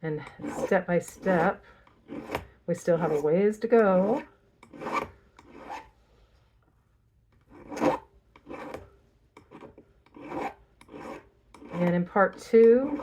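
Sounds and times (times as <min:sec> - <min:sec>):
file rasping on metal: 0:00.1 - 0:05.9, 0:07.4 - 0:13.0.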